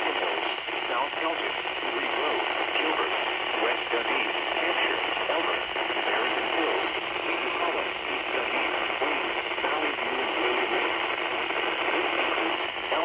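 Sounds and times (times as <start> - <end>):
faint broadcast voice: 0.0 - 13.0
radio static hiss: 0.0 - 13.0.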